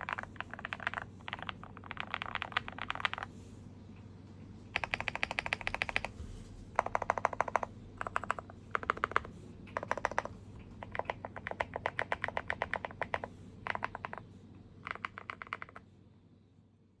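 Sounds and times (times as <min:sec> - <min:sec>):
mechanical keyboard typing: 0:00.0 - 0:03.3, 0:04.8 - 0:06.2, 0:06.8 - 0:15.8.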